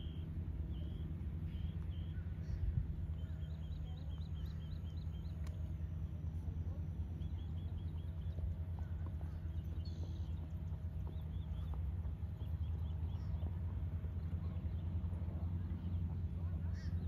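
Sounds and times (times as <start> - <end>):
low rumble: 0.0 - 17.0
small birds chirping: 0.0 - 17.0.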